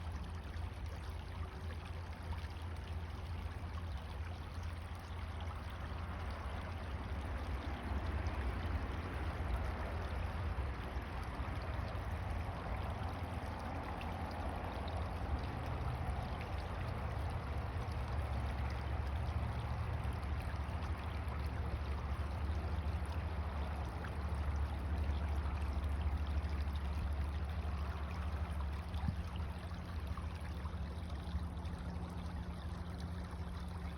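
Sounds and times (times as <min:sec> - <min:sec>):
creek water trickling: 0:00.0 - 0:33.9.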